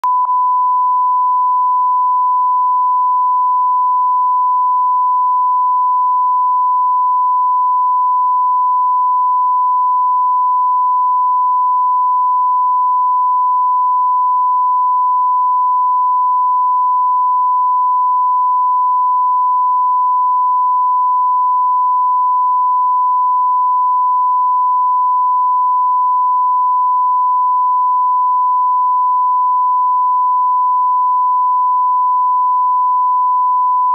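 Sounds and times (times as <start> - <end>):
steady sine-wave test tone: 0.0 - 33.9.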